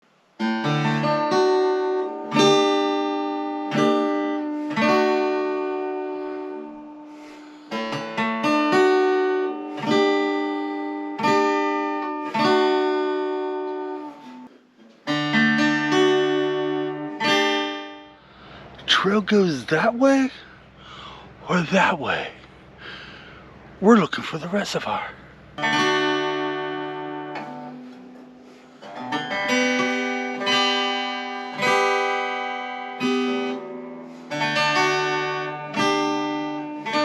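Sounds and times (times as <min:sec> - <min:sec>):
acoustic guitar strummed chords: 0:00.0 - 0:37.0.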